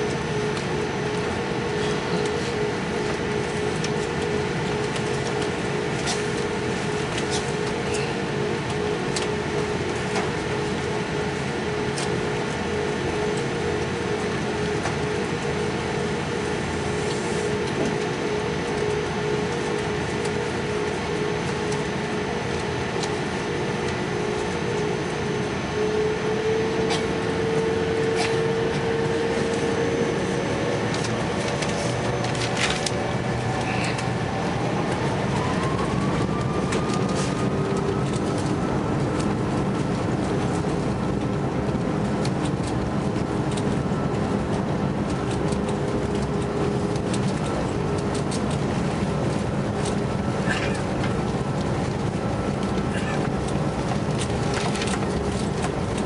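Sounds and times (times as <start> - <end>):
jet engine hum and whine: 0.0 - 56.0.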